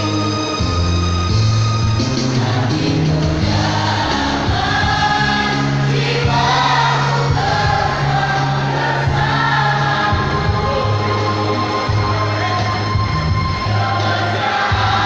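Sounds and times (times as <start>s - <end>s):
mixed choir singing: 1.9s - 15.0s.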